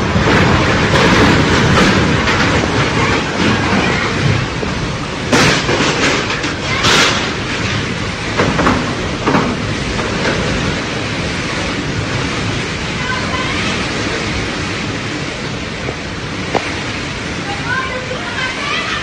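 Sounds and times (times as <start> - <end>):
wind on microphone: 0.0 - 19.0
windstorm with driving rain: 0.0 - 19.0.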